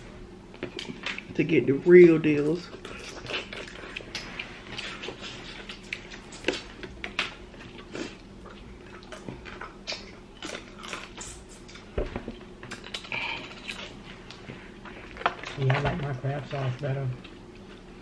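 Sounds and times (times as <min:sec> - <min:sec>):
eating sounds: 0:02.4 - 0:18.0.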